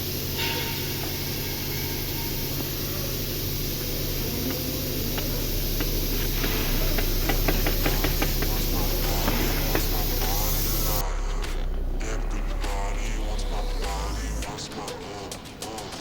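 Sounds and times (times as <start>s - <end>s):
car engine droning: 0.0s - 15.6s.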